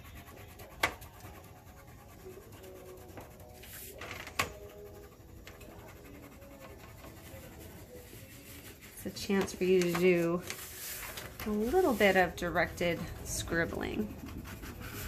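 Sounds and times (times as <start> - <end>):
crayon scratching on paper: 0.0 - 15.0.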